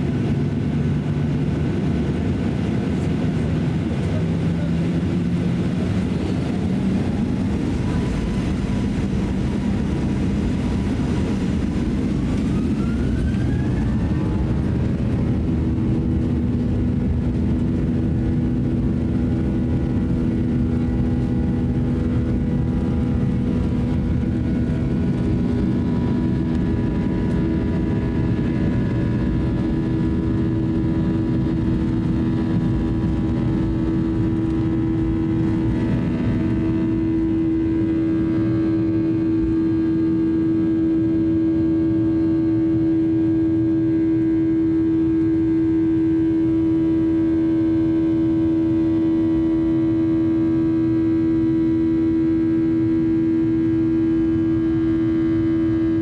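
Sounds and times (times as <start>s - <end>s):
jet engines roaring and whining: 0.0s - 56.0s.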